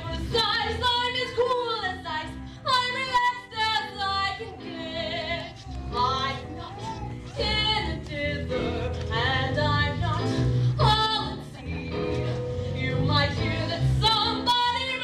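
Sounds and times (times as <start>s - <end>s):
young female voice singing: 0.0s - 12.2s.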